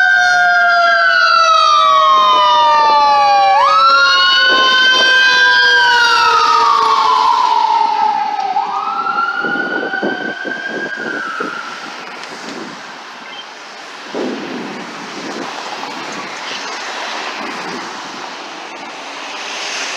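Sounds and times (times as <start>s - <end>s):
fire engine wail siren: 0.0s - 19.9s
road noise: 0.0s - 19.9s.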